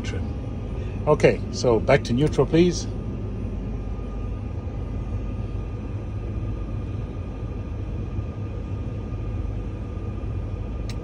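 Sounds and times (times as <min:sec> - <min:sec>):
faint steady whine: 0:00.0 - 0:11.0
low rumble: 0:00.0 - 0:11.0.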